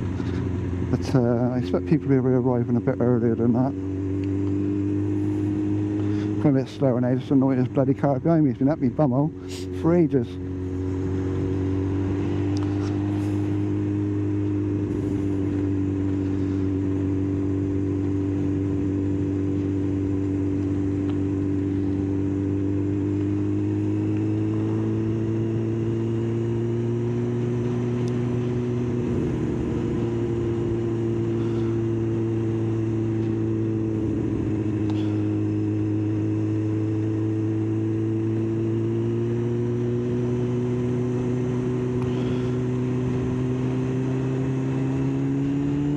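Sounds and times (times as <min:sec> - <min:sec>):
motorcycle engine cruising: 0:00.0 - 0:45.9
road and wind rush: 0:00.0 - 0:45.9.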